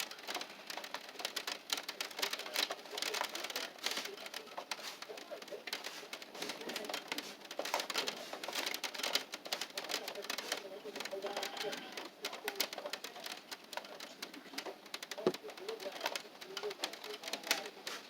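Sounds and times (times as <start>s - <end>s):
raindrops tapping on hard surface: 0.0s - 18.0s.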